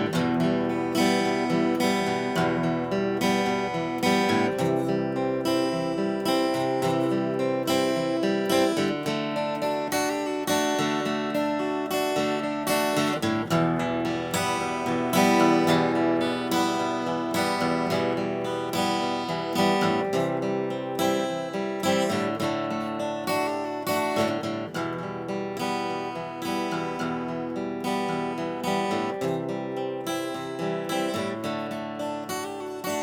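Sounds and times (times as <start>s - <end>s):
strummed acoustic guitar: 0.0s - 33.0s.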